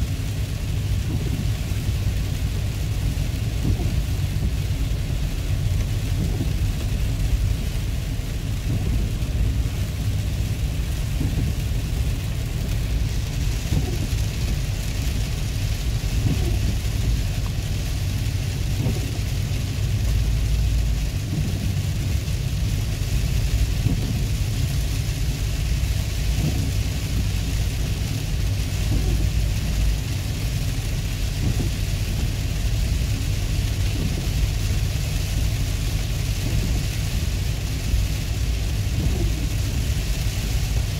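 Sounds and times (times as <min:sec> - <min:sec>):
car and tyres rumbling on wet road: 0:00.0 - 0:40.9
rain hissing on car: 0:00.0 - 0:40.9.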